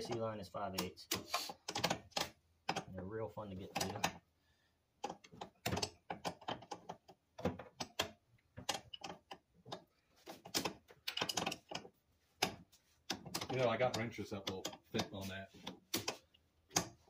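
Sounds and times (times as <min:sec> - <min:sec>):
hand tools clicking on metal: 0:00.0 - 0:03.0, 0:05.0 - 0:17.0.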